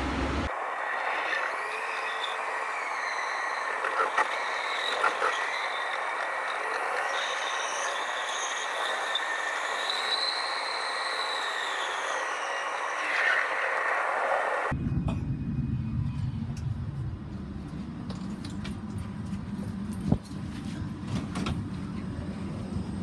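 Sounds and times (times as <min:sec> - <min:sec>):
light-rail train running: 0:00.0 - 0:23.0.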